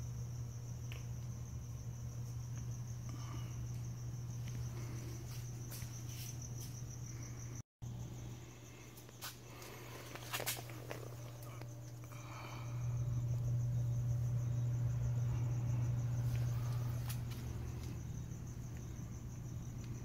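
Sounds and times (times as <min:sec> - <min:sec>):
insects chirring: 0:00.0 - 0:20.0
steady low hum: 0:00.0 - 0:20.0.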